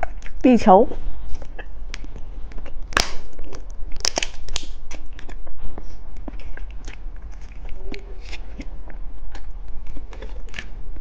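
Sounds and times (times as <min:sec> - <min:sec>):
chewing gummy candy: 0:00.0 - 0:00.5, 0:01.2 - 0:11.0.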